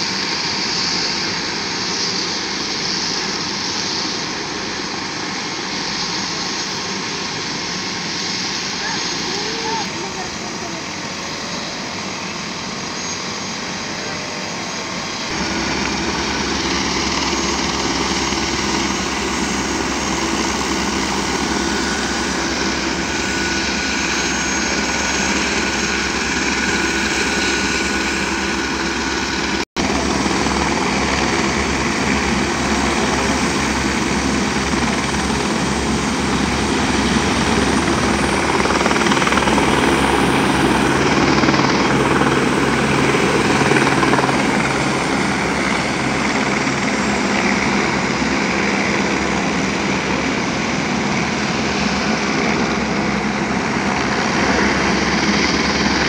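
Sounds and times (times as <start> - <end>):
helicopter rotor running: 0.0 - 56.0.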